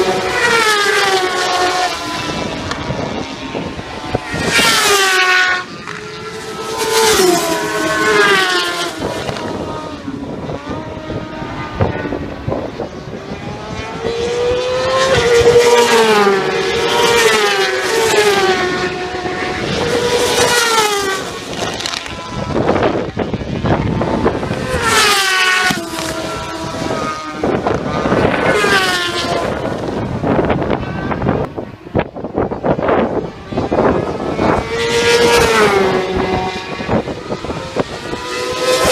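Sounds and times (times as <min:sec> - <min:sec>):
racing motorcycles passing by: 0:00.0 - 0:38.9.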